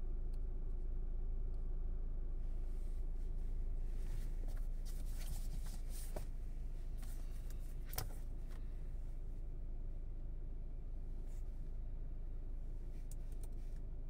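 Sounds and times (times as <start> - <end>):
car low rumble: 0.0 - 14.0.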